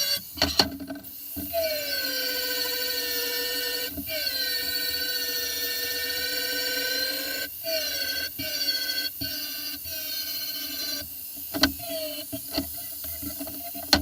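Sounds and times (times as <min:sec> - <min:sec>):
grinder whining on steel: 0:00.0 - 0:14.0.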